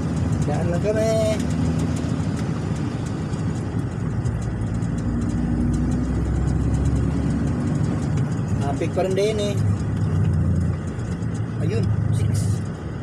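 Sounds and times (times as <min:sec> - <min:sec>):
road rumble: 0:00.0 - 0:13.0
truck engine droning: 0:00.0 - 0:13.0.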